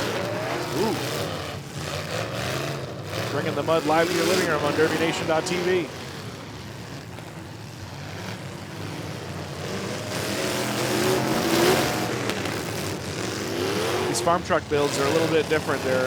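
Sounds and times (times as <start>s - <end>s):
engine revving: 0.0s - 16.0s
truck engines running: 0.0s - 16.0s.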